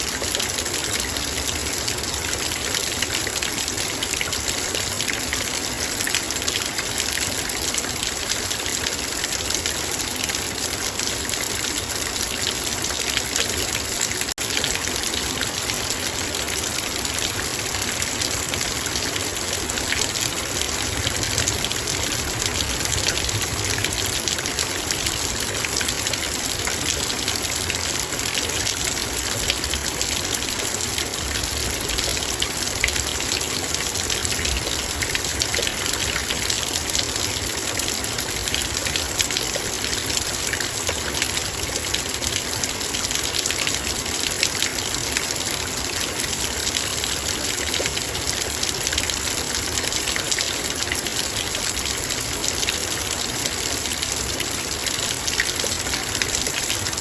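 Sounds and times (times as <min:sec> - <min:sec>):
rain on a metal bowl: 0:00.0 - 0:57.0.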